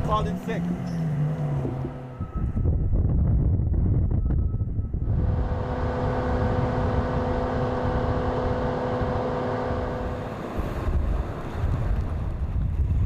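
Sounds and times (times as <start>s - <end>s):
motor vehicle running: 0.0s - 13.0s.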